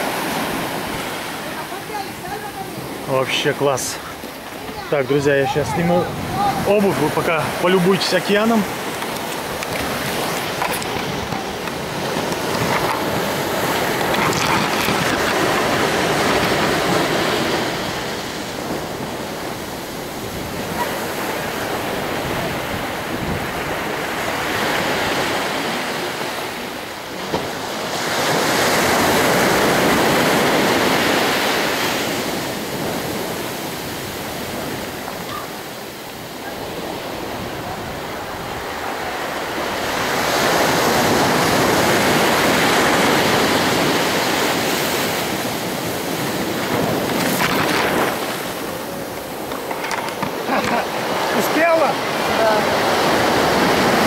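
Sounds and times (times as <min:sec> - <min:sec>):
surf breaking on a beach: 0:00.0 - 0:54.0.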